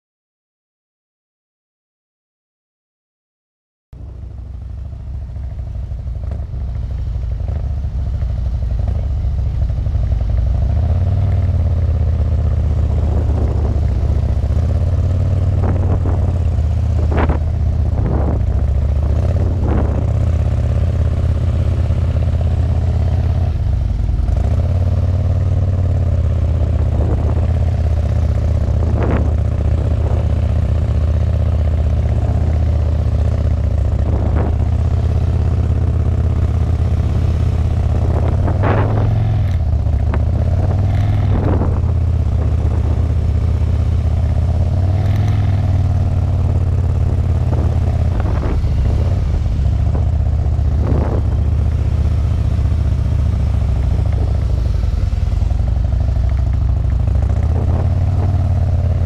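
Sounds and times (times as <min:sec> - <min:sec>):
motorcycle engine running: 0:04.0 - 0:59.0.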